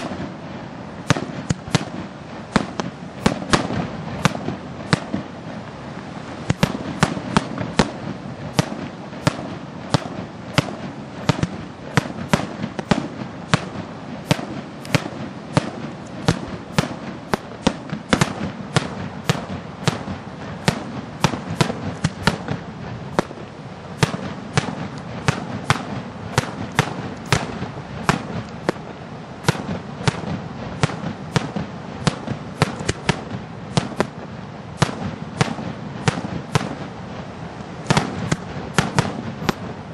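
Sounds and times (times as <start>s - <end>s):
fireworks bursting with sharp bangs: 0.0s - 39.9s.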